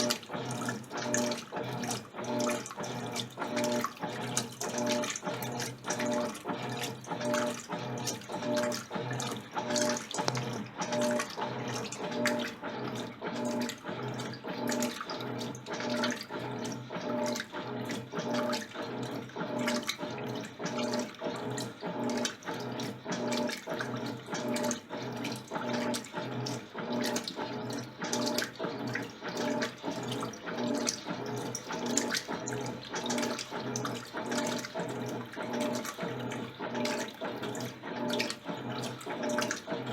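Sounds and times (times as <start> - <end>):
motor hum: 0.0 - 39.9
washing machine agitator churning: 0.0 - 39.9.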